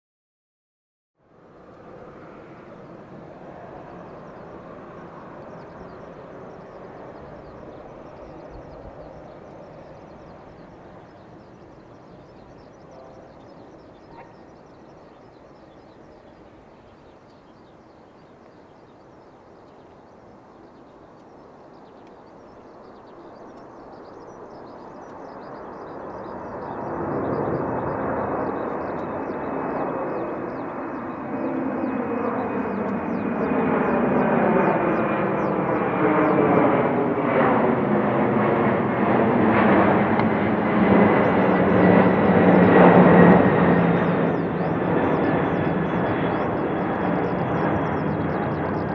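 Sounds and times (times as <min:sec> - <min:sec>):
jet engines roaring: 0:01.3 - 0:48.9.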